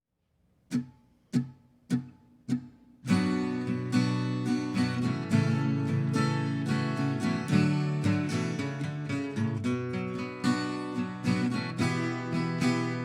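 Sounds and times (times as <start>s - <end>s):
strummed acoustic guitar: 0.7s - 13.0s.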